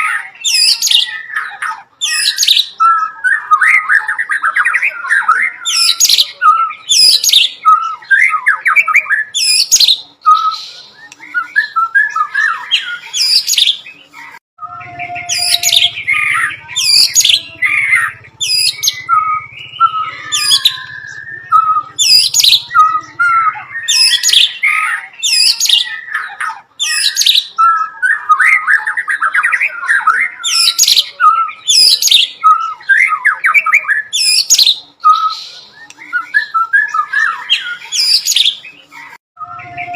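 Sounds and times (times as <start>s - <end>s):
songbird singing with mimicry: 0.0s - 39.9s.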